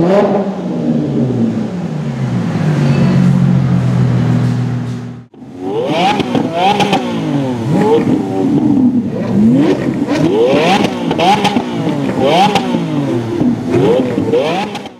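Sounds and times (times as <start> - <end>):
car engines revving: 0.0 - 14.9.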